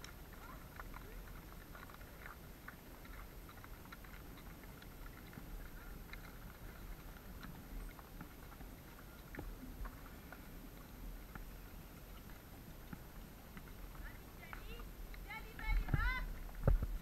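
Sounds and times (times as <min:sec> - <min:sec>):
horse tack clicking and tapping: 0:00.0 - 0:17.0.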